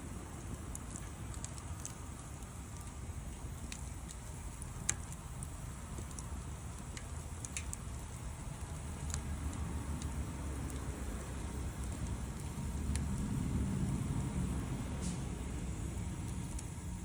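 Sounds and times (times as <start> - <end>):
fire low rumble: 0.0 - 17.0
wood crackling and popping: 0.0 - 17.0.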